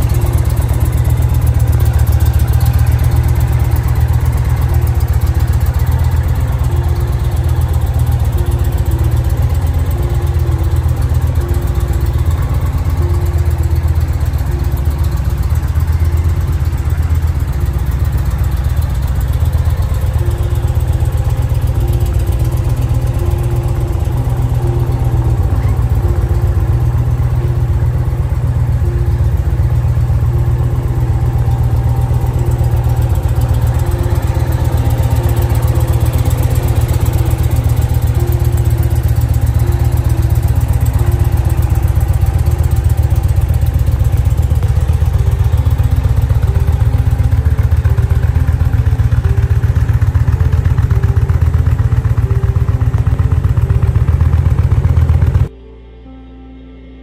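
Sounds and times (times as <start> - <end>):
motorcycle engine idling: 0.0 - 55.5.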